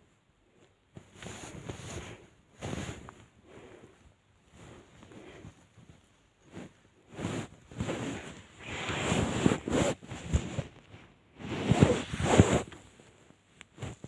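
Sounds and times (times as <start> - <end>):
blanket rustling on microphone: 0.5 - 14.0.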